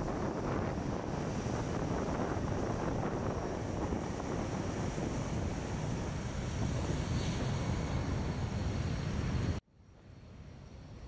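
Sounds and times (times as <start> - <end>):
wind buffeting microphone: 0.0 - 9.6
turboprop engines roaring: 0.0 - 11.0.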